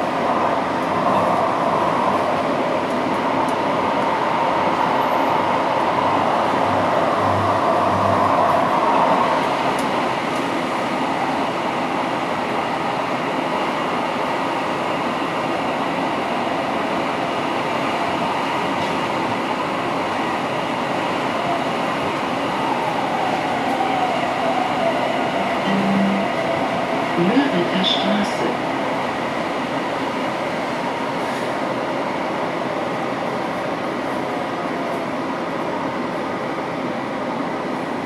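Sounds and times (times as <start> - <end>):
train wheels rumbling on rail: 0.0 - 38.0
train whine: 0.0 - 38.0.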